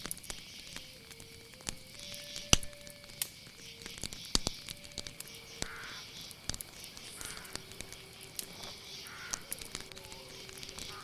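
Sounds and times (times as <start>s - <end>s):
sharp crackles and clicks: 0.0s - 11.0s.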